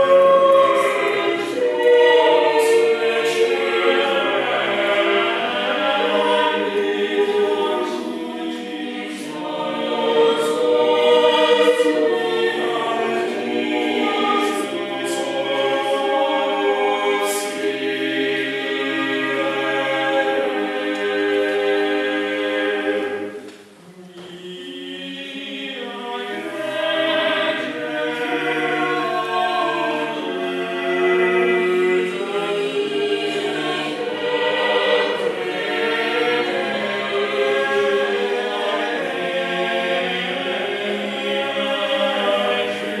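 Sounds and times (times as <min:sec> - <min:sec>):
choir singing a cappella: 0:00.0 - 0:43.0.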